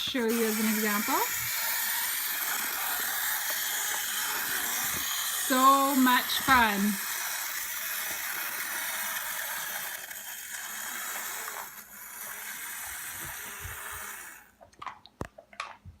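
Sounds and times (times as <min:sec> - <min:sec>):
clockwork toy motor whirring: 0:00.0 - 0:14.6.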